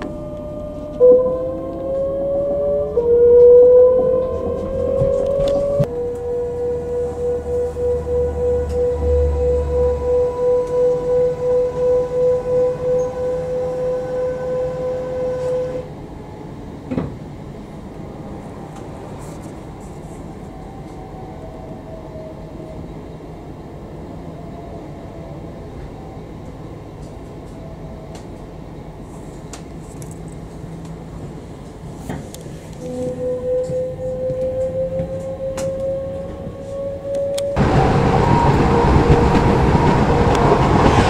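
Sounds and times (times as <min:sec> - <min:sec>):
steady whine: 0:00.0 - 0:21.0, 0:25.8 - 0:41.0
train carriage rumble: 0:00.0 - 0:41.0.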